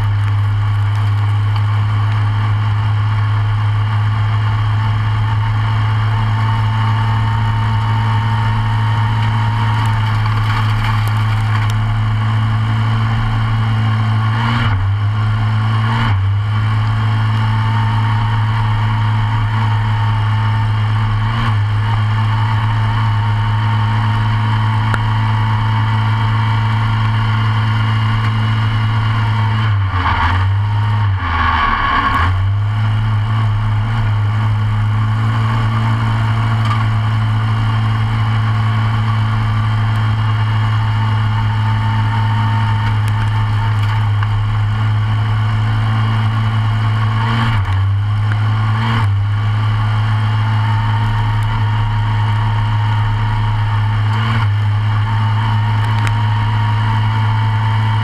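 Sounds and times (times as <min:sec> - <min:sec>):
kart racing engine running: 0:00.0 - 0:58.0.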